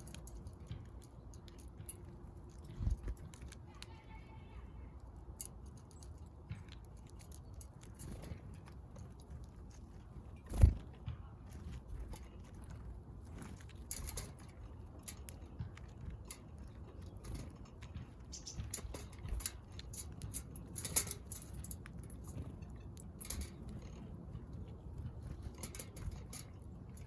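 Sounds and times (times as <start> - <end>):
birds pecking at seed: 0.0 - 27.0.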